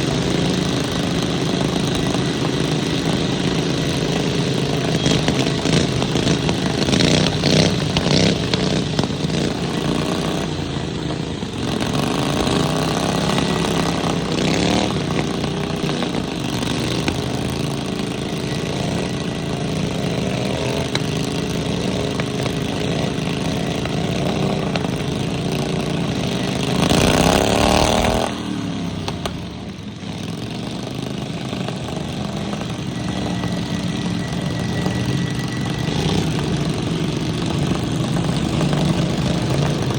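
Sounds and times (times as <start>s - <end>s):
lawnmower engines revving: 0.0s - 39.9s.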